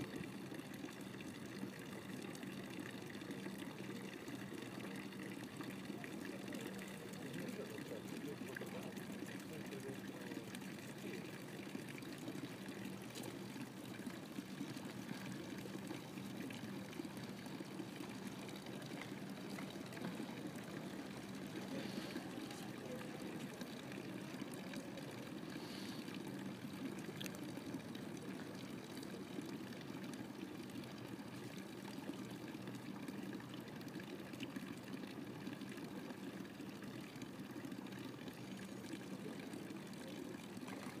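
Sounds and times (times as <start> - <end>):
water splashing into fountain basin: 0.0 - 41.0.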